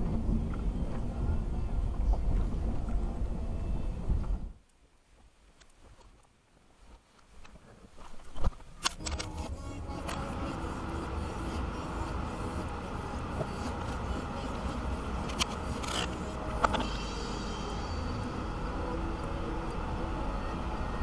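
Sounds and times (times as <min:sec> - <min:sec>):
engine and tyres rumbling on snow: 0:00.0 - 0:21.0.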